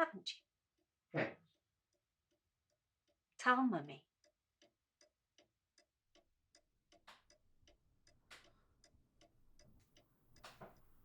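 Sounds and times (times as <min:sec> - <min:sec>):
clock ticking: 0:01.9 - 0:11.0.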